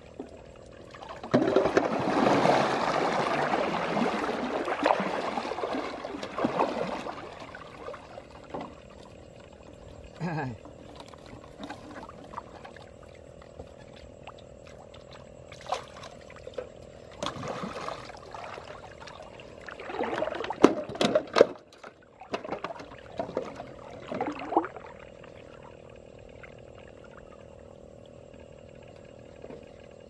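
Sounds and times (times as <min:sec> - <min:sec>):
muddy water splashing: 0:00.0 - 0:25.6.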